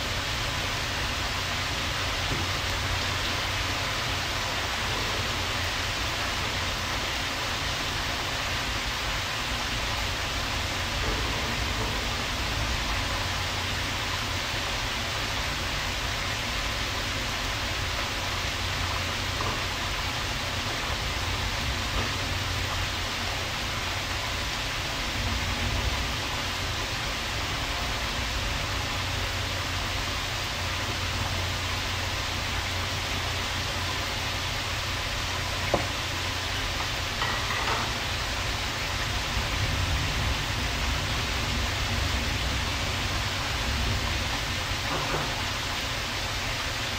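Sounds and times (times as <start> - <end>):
shrimp sizzling in a frying pan: 0.0 - 46.9.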